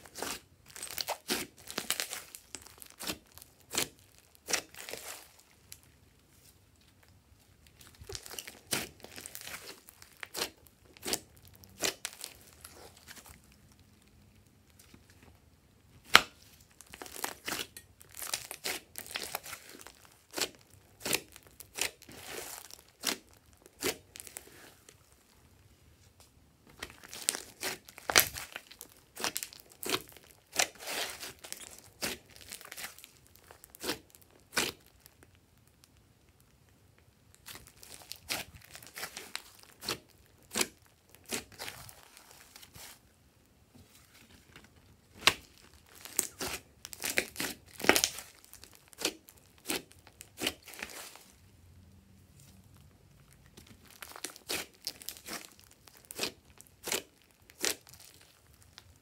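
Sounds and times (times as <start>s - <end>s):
hands squeezing slime: 0.0s - 5.8s, 7.6s - 13.6s, 16.4s - 24.9s, 26.8s - 35.3s, 37.3s - 43.0s, 45.2s - 51.4s, 52.3s - 59.0s
slime air pockets crackling: 0.0s - 5.9s, 7.6s - 15.2s, 16.0s - 25.6s, 26.7s - 35.7s, 37.3s - 43.1s, 44.1s - 59.0s.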